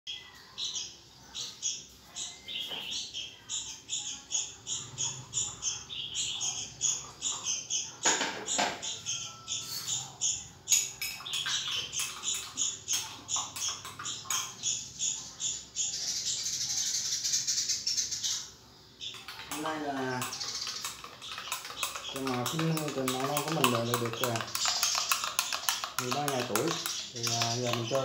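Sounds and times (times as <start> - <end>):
nestlings chirping: 0.1 - 28.0.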